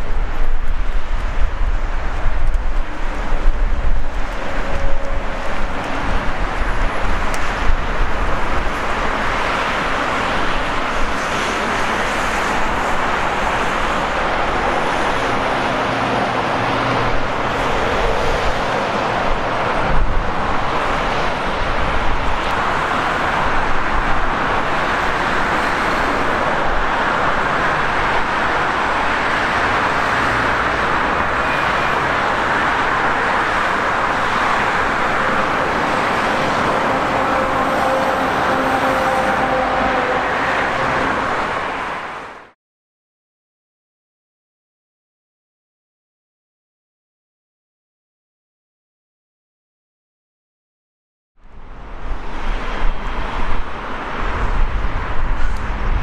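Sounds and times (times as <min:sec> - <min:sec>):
highway traffic rush: 0:00.0 - 0:42.6, 0:51.4 - 0:56.0.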